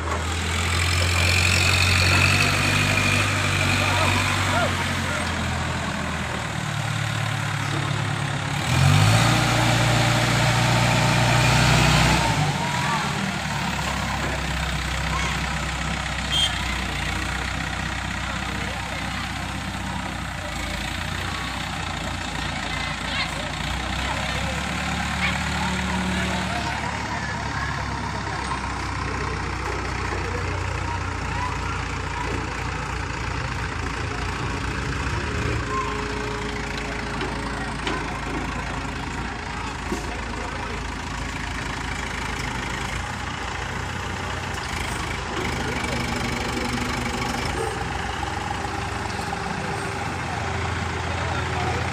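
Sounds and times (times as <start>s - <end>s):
crane diesel engine revving: 0.0s - 51.9s.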